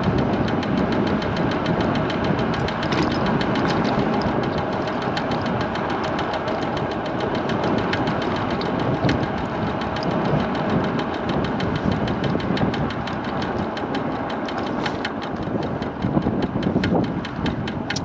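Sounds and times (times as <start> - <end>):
electric scooter rumble: 0.0 - 18.0.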